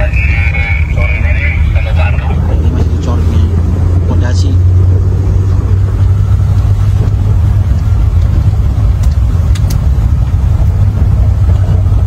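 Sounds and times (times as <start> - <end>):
road rumble: 0.0 - 12.0
vehicle engine running: 0.0 - 12.0.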